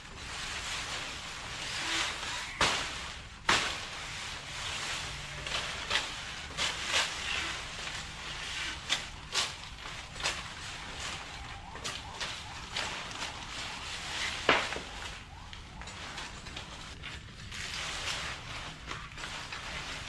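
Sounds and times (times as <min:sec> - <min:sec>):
branches snapping: 0:00.0 - 0:20.0
leafy branches rustling: 0:00.0 - 0:20.0
knife chopping leaves: 0:00.2 - 0:20.0.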